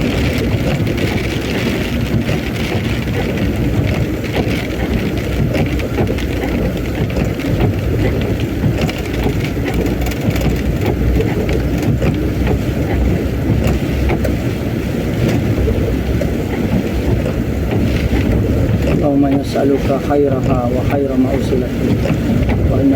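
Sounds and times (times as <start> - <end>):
heavy rain: 0.0 - 22.9
raindrop ticks: 0.0 - 22.9
wind buffeting microphone: 0.0 - 22.9.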